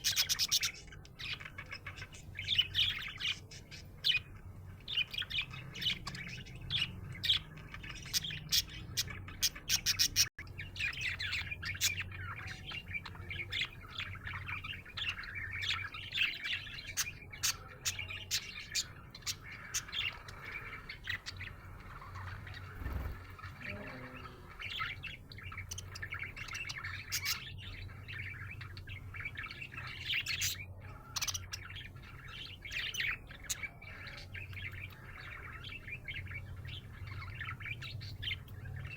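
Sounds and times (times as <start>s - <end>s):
budgerigar chirping and warbling: 0.0s - 38.9s.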